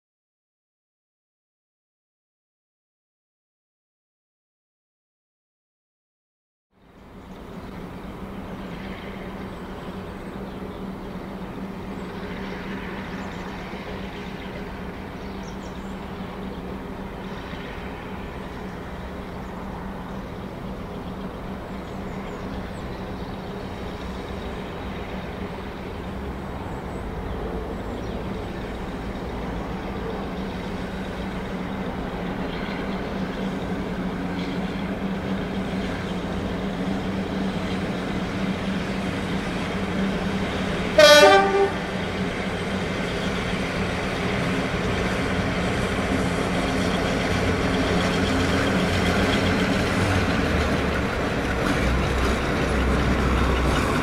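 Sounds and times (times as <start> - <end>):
diesel locomotive engine hum: 6.7 - 54.0.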